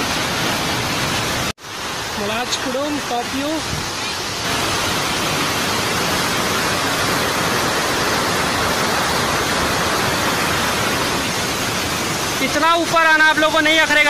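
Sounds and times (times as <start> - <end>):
river cascading over boulders: 0.0 - 14.0.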